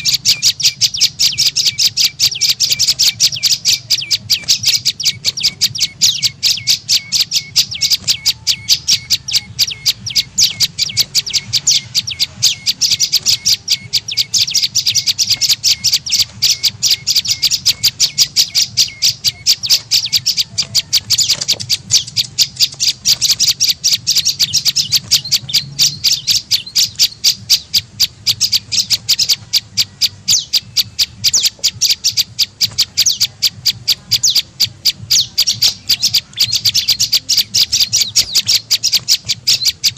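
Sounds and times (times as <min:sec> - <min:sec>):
rapid high bird chirps: 0:00.0 - 0:39.9.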